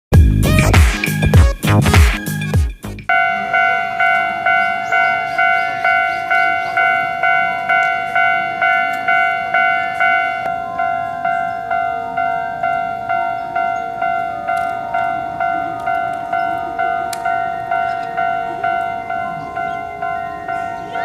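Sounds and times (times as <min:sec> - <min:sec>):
level-crossing warning bell: 0:03.1 - 0:21.0.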